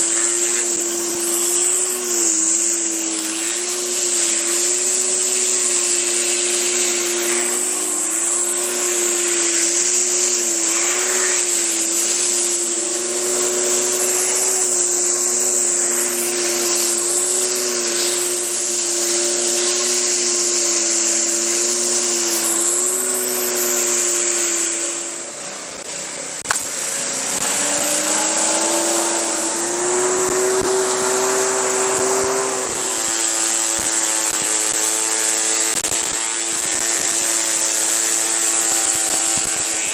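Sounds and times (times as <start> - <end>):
high-pressure water spray hissing: 0.0 - 39.9
pressure washer engine running: 0.0 - 39.9.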